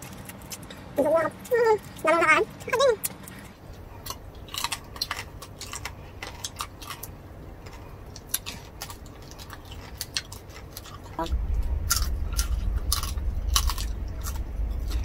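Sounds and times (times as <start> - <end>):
people chewing crisp food: 0.0 - 15.0.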